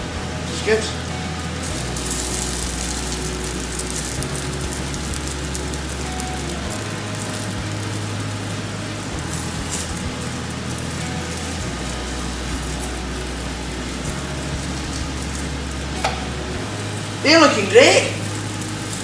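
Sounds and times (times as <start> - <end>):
food sizzling in oil: 0.0 - 19.0
low hum shifting in pitch: 0.0 - 19.0.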